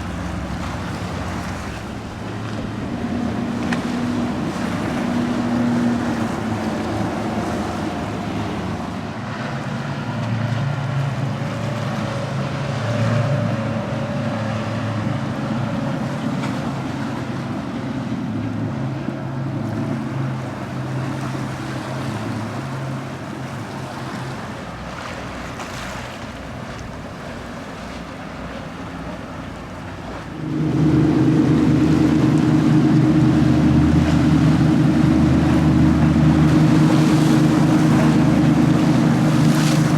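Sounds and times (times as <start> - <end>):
deep boat engine: 0.0 - 39.9
motorboat engines: 0.0 - 39.9
waves washing: 0.0 - 39.9
wind: 0.0 - 39.9.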